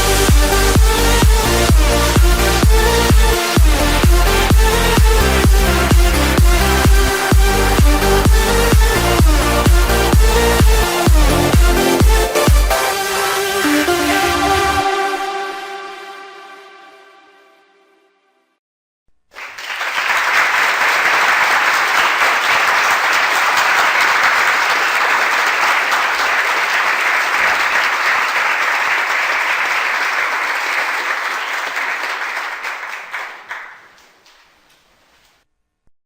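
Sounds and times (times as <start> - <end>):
crowd applauding: 0.0 - 14.8, 19.3 - 34.5.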